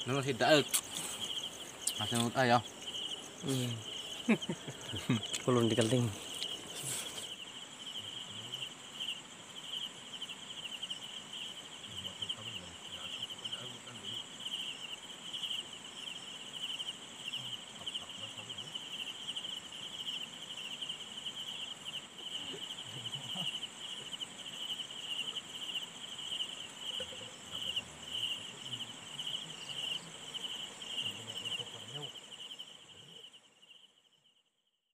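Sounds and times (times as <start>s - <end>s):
night insects trilling: 0.0s - 34.6s
high steady insect buzz: 0.0s - 34.9s.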